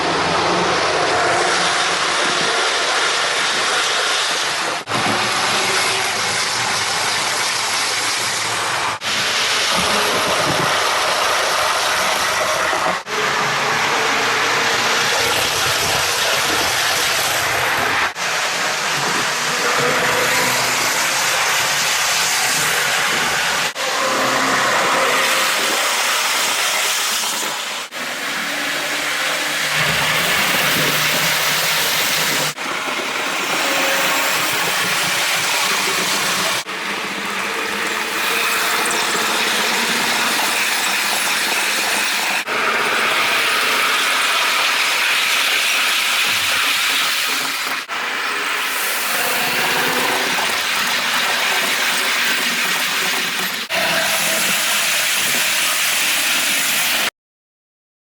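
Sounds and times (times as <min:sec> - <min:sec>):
model trains running on track: 0:00.0 - 0:57.1.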